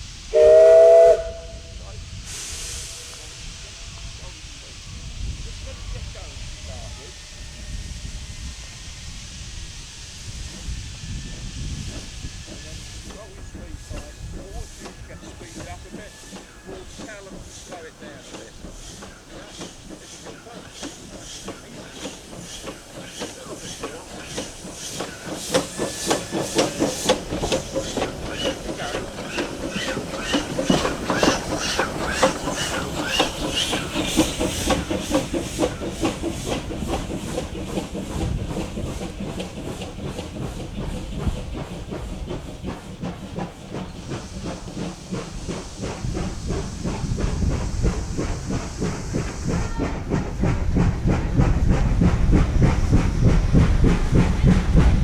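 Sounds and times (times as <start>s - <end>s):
hissing steam: 0.0s - 55.0s
low train rumble: 0.0s - 55.0s
steam locomotive chuffing: 0.0s - 55.0s.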